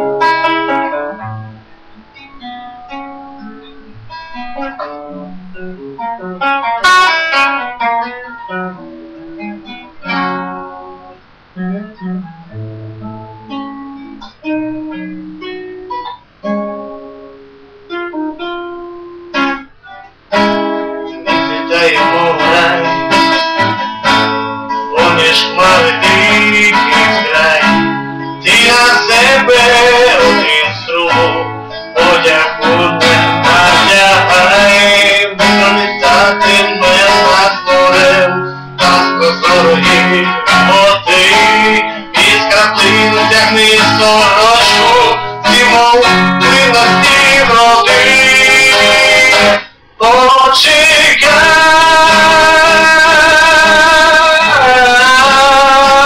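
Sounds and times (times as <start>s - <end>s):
plucked guitar notes: 0.0s - 56.0s
strummed guitar chords: 0.0s - 56.0s.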